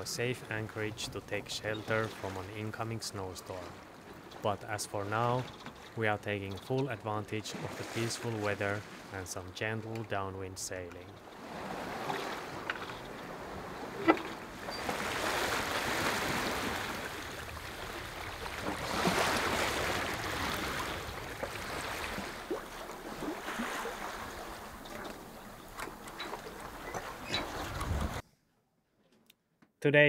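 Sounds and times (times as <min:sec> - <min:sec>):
water rushing along boat hull: 0:00.0 - 0:28.2.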